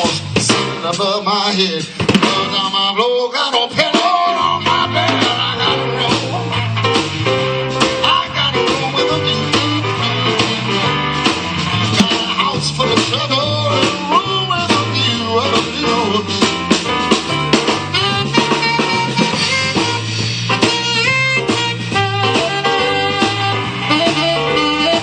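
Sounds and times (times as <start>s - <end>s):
bass line: 0.0s - 25.0s
blues rock band playing: 0.0s - 25.0s.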